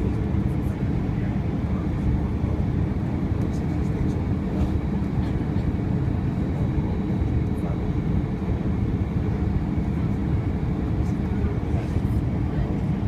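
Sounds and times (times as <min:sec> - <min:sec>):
airplane engines and airflow rumble: 0:00.0 - 0:13.0.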